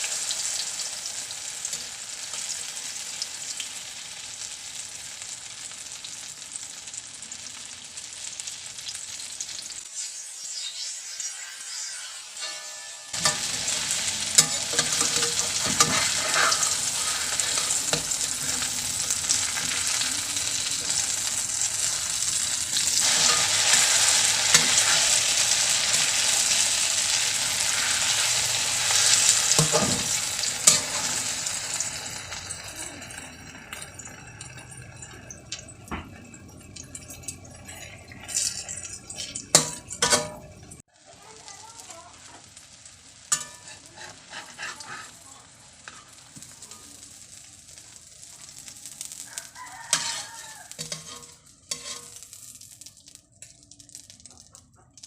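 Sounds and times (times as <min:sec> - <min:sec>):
omelet sizzling in oil: 0:00.0 - 0:55.0.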